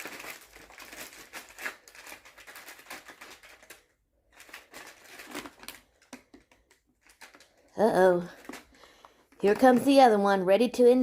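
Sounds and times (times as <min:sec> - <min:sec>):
packing paper crinkling: 0:00.0 - 0:10.0.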